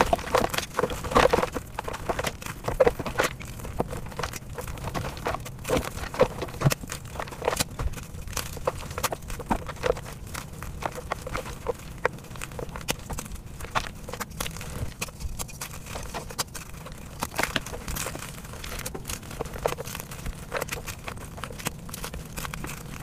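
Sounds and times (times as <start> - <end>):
chalk crunching and crumbling: 0.0 - 23.0.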